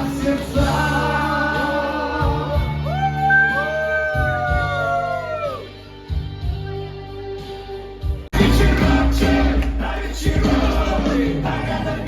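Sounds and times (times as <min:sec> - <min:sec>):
bass and steady beat: 0:00.0 - 0:12.0
pop music with sung note: 0:00.0 - 0:12.0.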